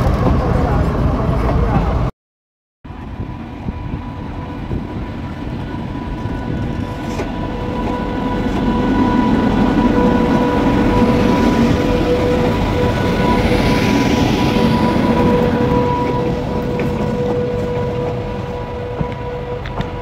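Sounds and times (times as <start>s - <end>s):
electric locomotive rolling past: 2.9s - 20.0s.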